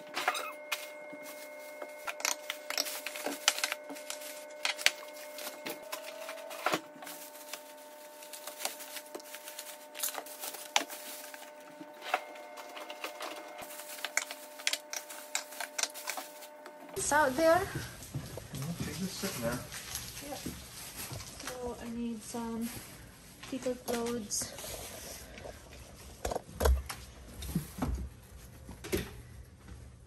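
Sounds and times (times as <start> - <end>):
plastic bags rustling: 0.0 - 28.7.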